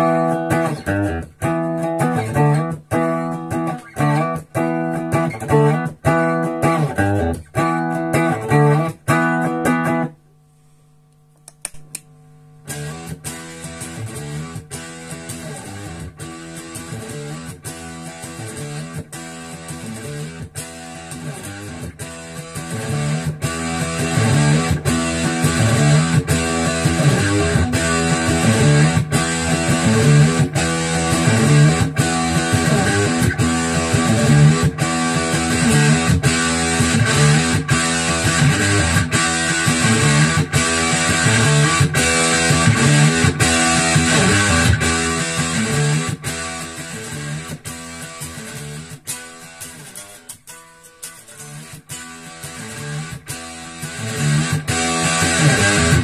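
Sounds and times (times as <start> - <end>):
overdriven electric guitar chords: 0.0 - 11.3, 12.0 - 56.0.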